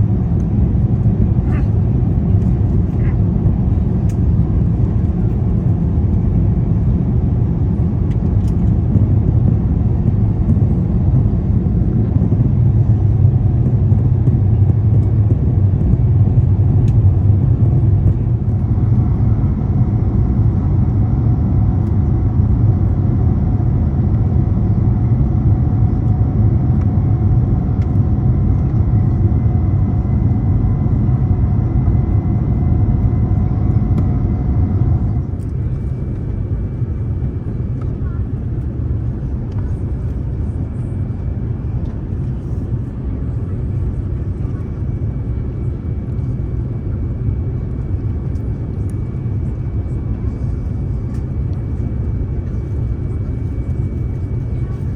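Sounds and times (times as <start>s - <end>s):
airliner engine and airflow rumble: 0.0s - 54.9s.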